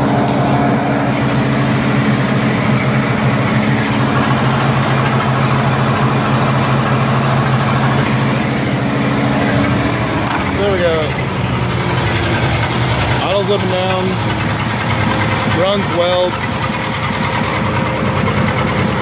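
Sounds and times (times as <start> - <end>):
engine-driven welder humming: 0.0 - 19.0.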